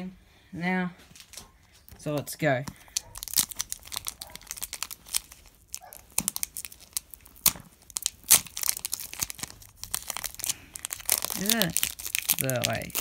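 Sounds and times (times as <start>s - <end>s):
foil wrapper crinkling and ripping: 1.9s - 13.0s.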